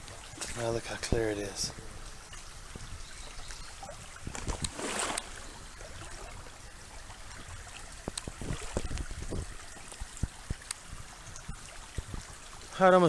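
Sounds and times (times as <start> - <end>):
creek water trickling over rocks: 0.0 - 13.0
water swish: 0.0 - 13.0.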